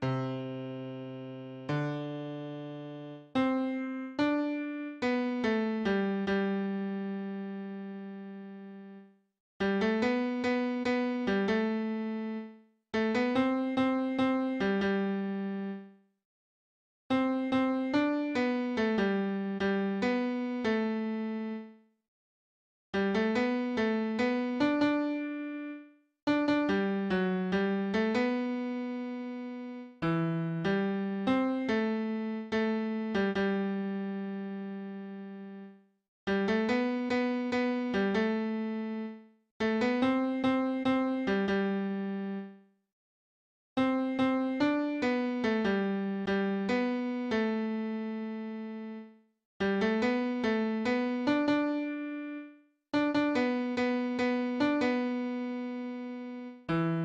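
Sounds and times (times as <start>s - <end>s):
electronic piano notes: 0.0s - 9.0s, 9.6s - 15.8s, 17.1s - 21.7s, 23.0s - 35.7s, 36.3s - 42.5s, 43.8s - 57.0s.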